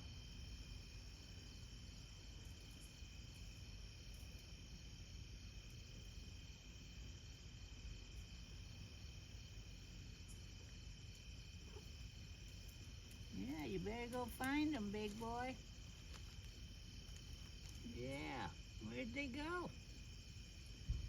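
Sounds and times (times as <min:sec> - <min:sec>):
crickets and night insects chirping: 0:00.0 - 0:21.0.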